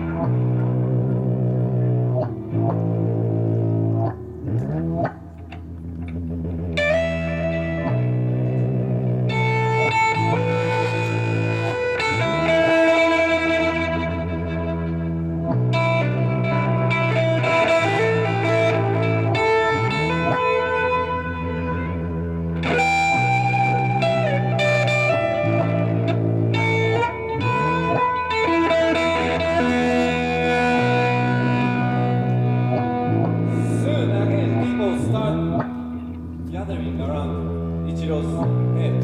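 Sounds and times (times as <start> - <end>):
electric guitar with effects: 0.0 - 39.0.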